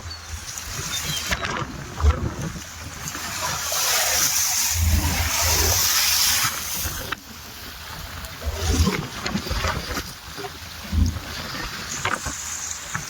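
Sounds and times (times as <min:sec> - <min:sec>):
sea water rushing and splashing: 0:00.0 - 0:13.0.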